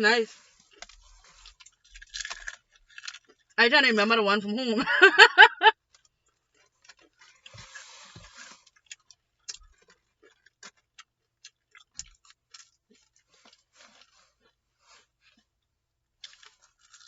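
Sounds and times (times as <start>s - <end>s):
crunching of eating fried chicken: 0.3s - 3.6s, 5.7s - 17.0s.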